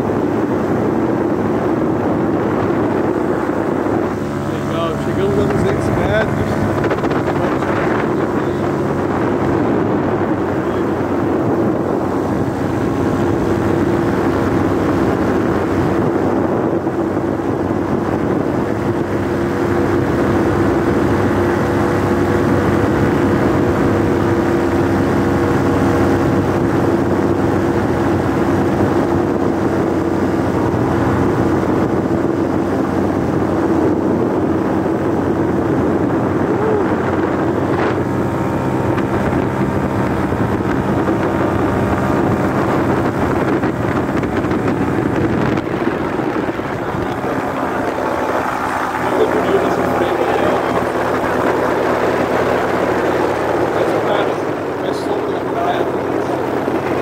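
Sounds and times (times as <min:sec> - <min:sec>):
paramotor engine drone: 0:00.0 - 0:57.0.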